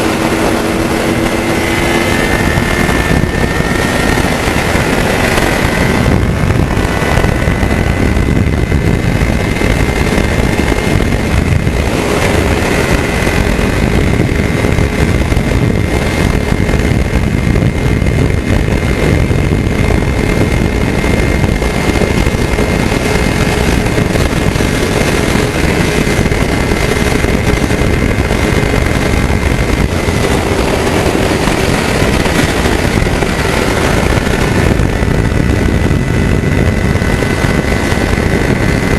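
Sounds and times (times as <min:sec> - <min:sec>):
motorcycle engine at highway speed: 0:00.0 - 0:38.9
wind rush on microphone: 0:00.0 - 0:38.9.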